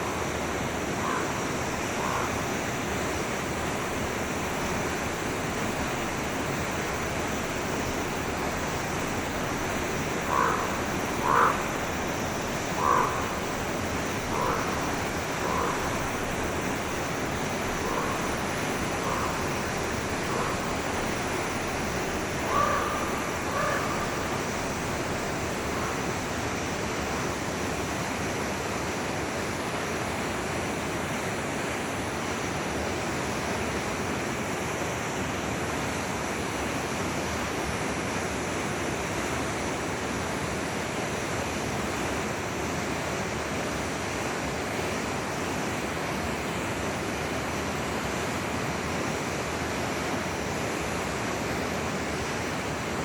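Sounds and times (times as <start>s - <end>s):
forest river rushing: 0.0s - 53.0s.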